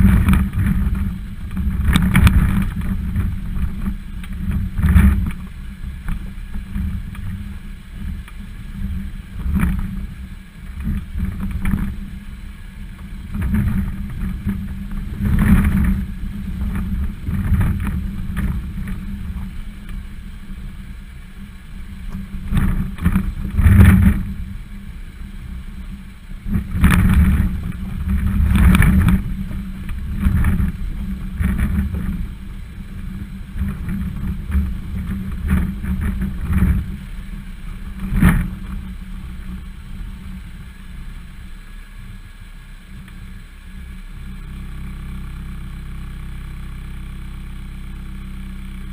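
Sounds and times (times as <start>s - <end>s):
wind on microphone: 0.0s - 42.2s
low vehicle rumble: 0.0s - 48.9s.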